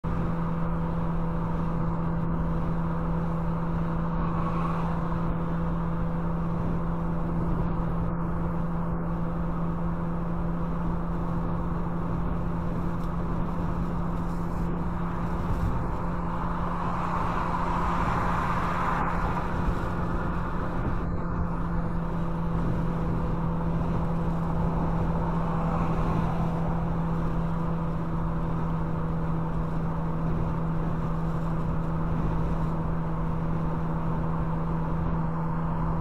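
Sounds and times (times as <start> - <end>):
constant low hum: 0.0 - 36.0
road and tyre noise: 0.0 - 36.0.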